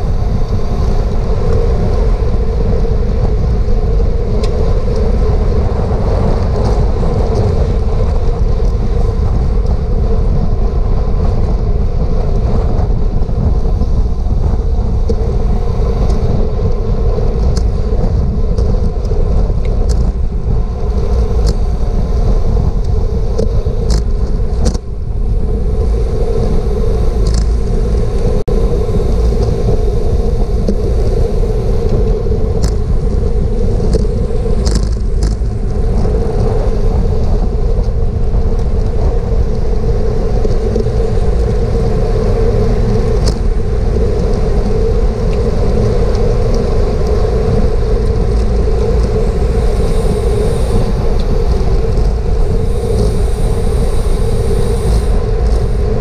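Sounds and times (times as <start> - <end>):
steady hum: 0.0 - 56.0
wind rushing over microphone: 0.0 - 56.0.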